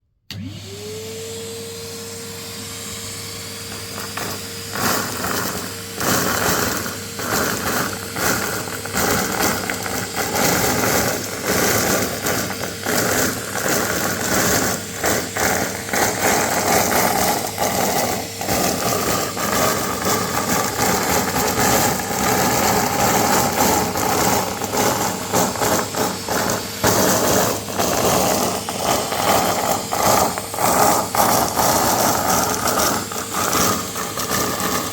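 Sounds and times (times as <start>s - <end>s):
vacuum cleaner motor: 0.3s - 34.9s
confetti rattling through nozzle: 3.7s - 34.9s.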